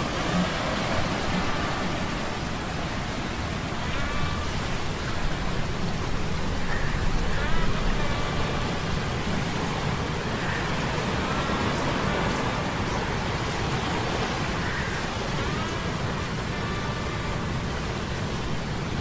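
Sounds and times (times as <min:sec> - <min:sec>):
rain and wind: 0:00.0 - 0:19.0.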